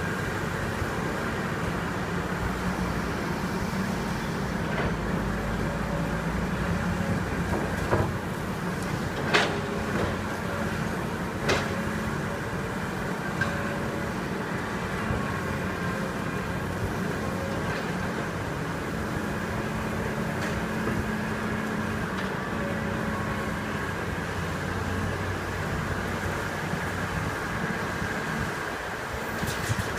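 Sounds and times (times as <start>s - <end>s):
diesel engine humming: 0.0s - 29.4s.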